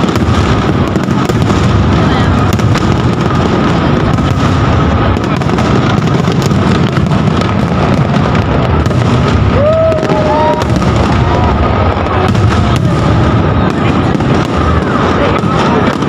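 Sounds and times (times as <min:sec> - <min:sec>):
fireworks booming: 0:00.0 - 0:16.0
sharp bangs and crackles: 0:00.0 - 0:16.0.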